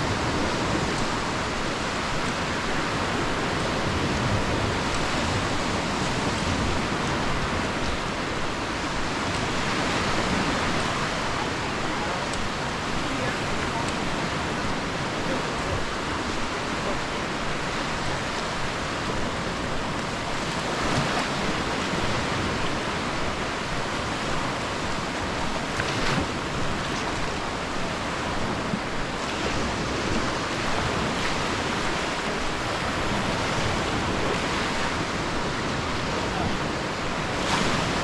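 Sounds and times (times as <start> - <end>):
sea waves washing onto shore: 0.0 - 38.0.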